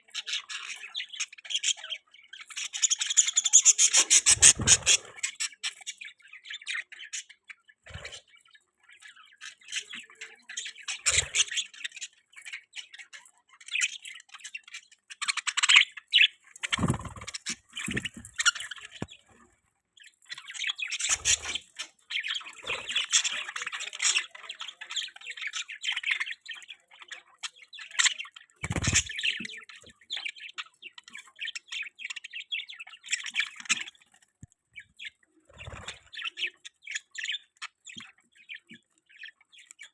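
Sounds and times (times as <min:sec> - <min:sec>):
budgies chirping and squawking: 0:00.0 - 0:39.9.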